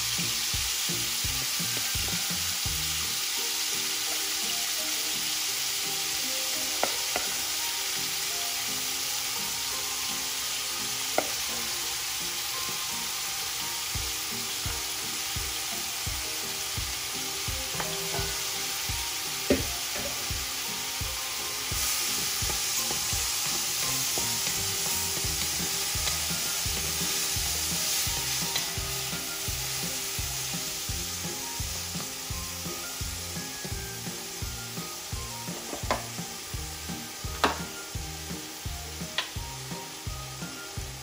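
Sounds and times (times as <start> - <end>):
shrimp sizzling in hot oil: 0.0 - 41.0.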